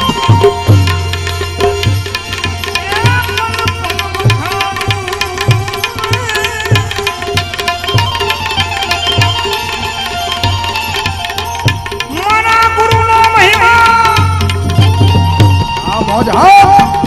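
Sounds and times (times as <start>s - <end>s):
hand drum beat: 0.0s - 17.0s
sliding melody line: 0.0s - 17.0s.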